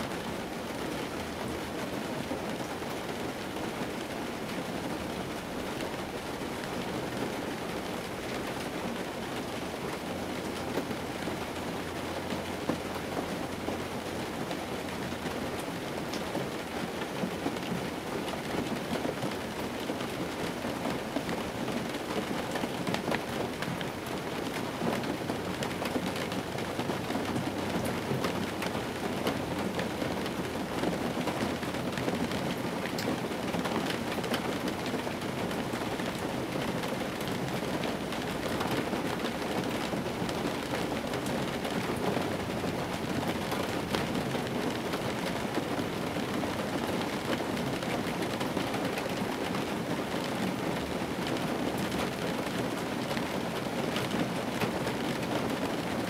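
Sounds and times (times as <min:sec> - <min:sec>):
rain on car roof: 0:00.0 - 0:56.0.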